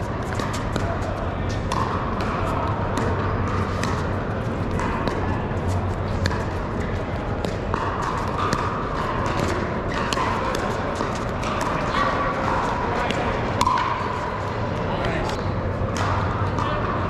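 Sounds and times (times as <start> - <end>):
murmur of large hall: 0.0 - 17.0.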